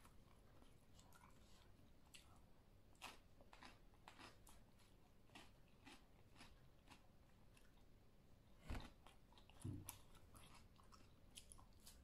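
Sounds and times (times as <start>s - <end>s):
cucumber crunching while chewed: 0.0s - 7.8s, 8.7s - 12.0s.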